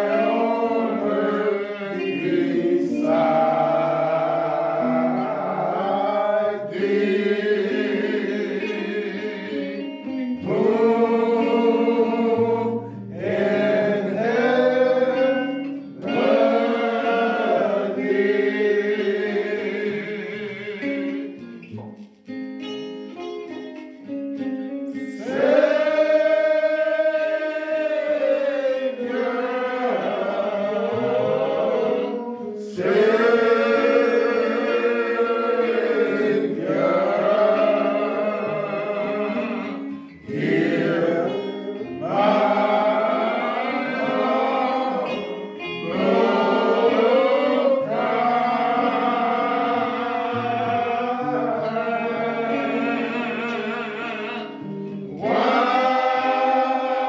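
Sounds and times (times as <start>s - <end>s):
gospel singing: 0.0s - 22.0s, 24.4s - 57.0s.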